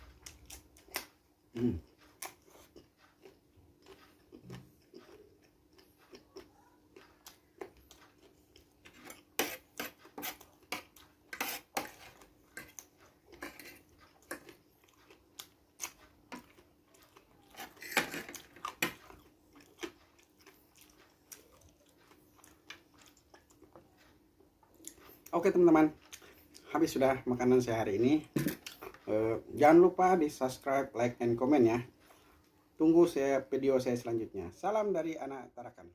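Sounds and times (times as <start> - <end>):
person chewing food: 0.0 - 27.1, 27.9 - 29.6, 31.9 - 32.8.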